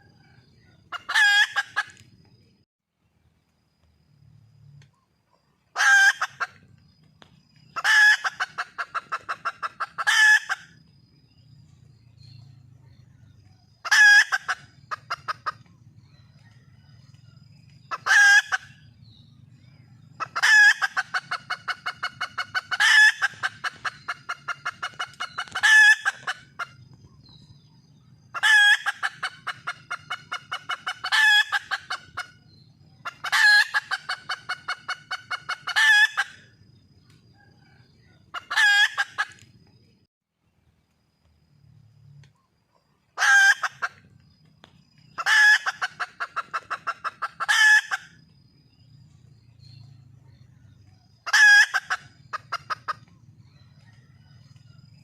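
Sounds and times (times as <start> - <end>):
hen calling and clucking: 0.0 - 2.4, 4.9 - 10.9, 12.8 - 39.6, 42.8 - 44.2, 45.0 - 48.3, 49.7 - 55.0.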